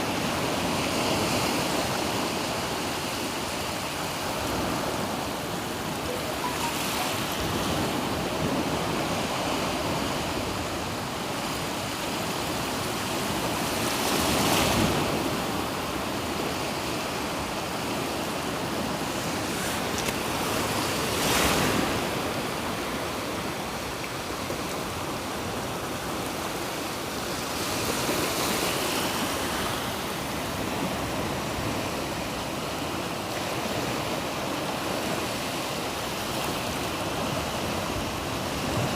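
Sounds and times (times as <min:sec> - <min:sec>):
surf washing onto shore: 0:00.0 - 0:38.9.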